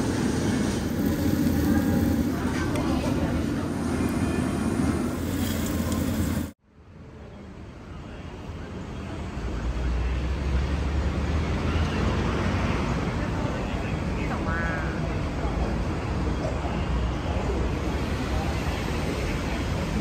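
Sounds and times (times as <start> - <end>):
city traffic noise: 0.0 - 20.0.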